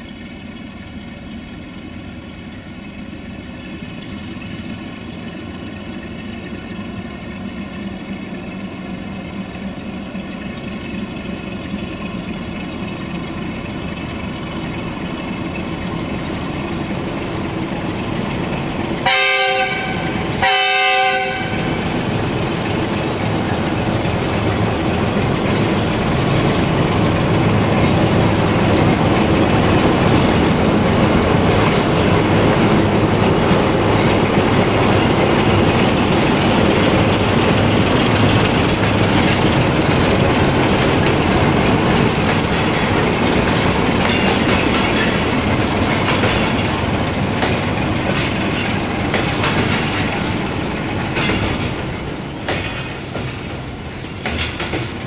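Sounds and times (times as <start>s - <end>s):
diesel locomotive engine hum: 0.0s - 55.0s
train wagons rumbling: 0.0s - 55.0s
wheels clacking over rail joints: 0.0s - 55.0s.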